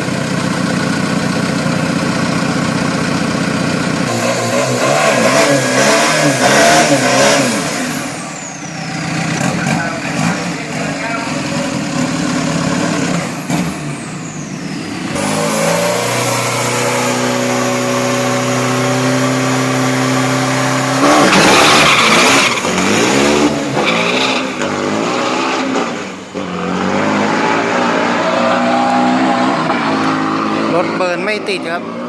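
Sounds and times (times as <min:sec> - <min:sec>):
engine revving at high revs: 0:04.0 - 0:31.2.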